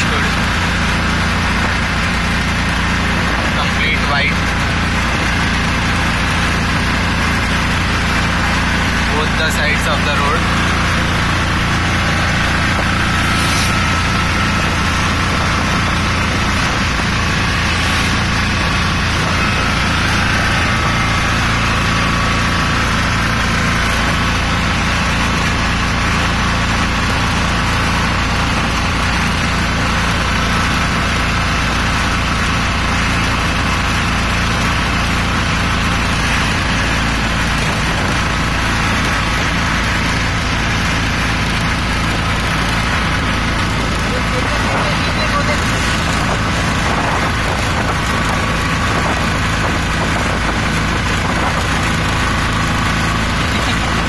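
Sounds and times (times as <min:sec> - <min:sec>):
auto-rickshaw engine running: 0:00.0 - 0:54.0
road and wind rushing: 0:00.0 - 0:54.0.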